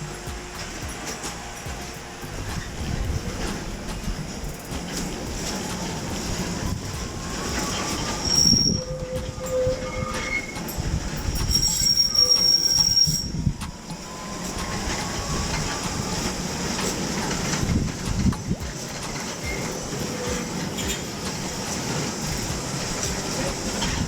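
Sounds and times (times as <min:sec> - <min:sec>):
steel wheels squealing: 0:00.0 - 0:24.0
tram rumbling on rails: 0:00.0 - 0:24.0.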